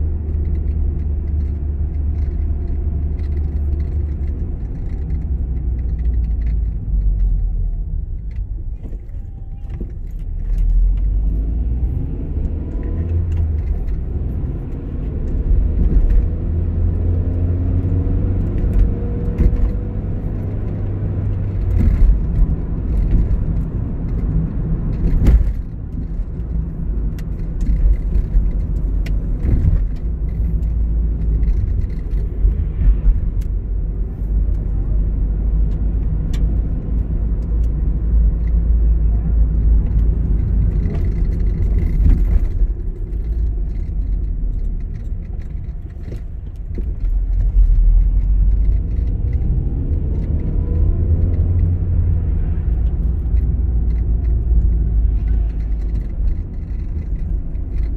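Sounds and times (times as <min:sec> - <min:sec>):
car engine and tyre rumble: 0:00.0 - 0:57.9
light clicks and rattles: 0:00.2 - 0:57.9.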